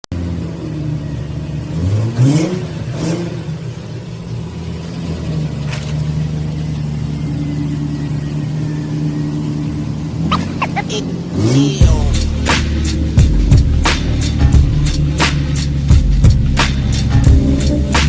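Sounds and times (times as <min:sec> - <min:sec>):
car engine revving: 0:00.1 - 0:18.0.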